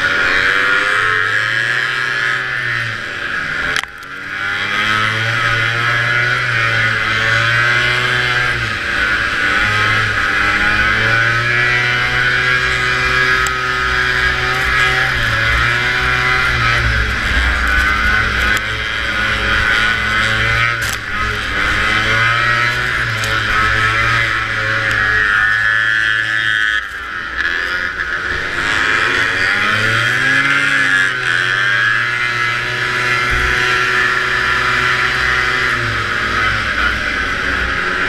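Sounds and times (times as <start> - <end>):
two-stroke snowmobile engine revving: 0.0 - 38.0.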